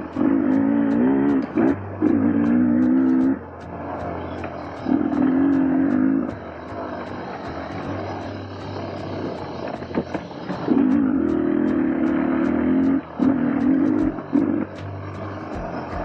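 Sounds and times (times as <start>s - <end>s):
dirt bike engine: 0.0s - 16.0s.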